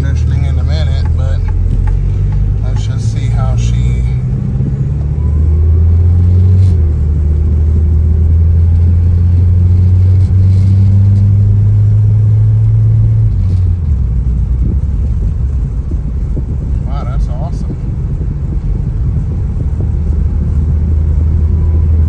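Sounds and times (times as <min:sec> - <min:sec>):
car engine droning inside cabin: 0:00.0 - 0:22.0.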